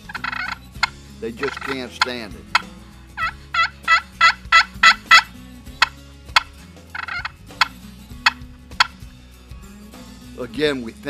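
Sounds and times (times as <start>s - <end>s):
turkey call popping clucks: 0.0s - 9.1s
turkey call yelps: 0.0s - 9.1s.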